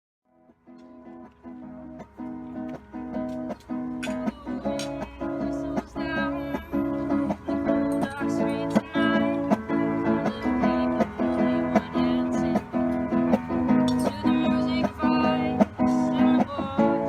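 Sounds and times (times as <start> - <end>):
strummed acoustic string chords: 0.3 - 17.0.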